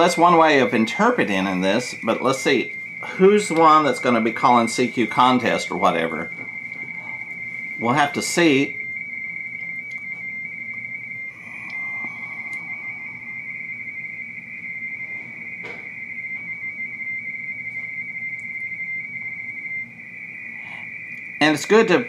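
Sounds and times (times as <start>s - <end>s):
radio teletype data tone: 0.0s - 22.0s.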